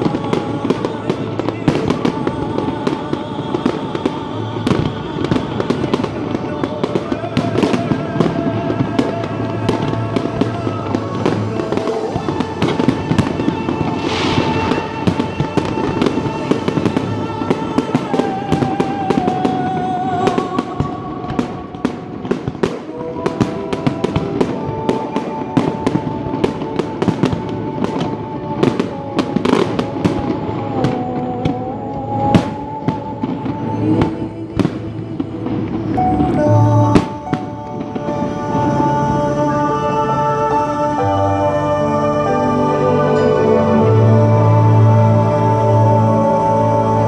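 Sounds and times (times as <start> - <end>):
fireworks bangs and crackles: 0.0 - 41.4
music playing: 0.0 - 47.0.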